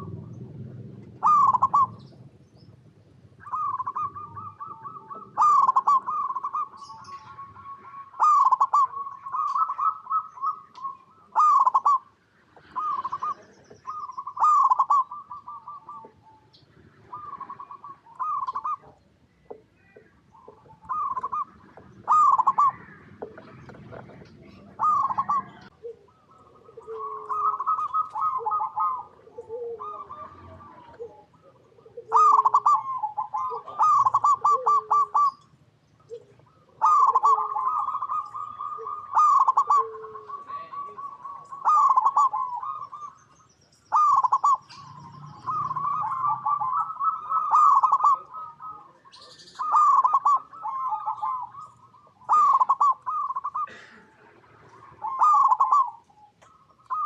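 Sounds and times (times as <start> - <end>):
doves cooing in rapid phrases: 0.0 - 57.0.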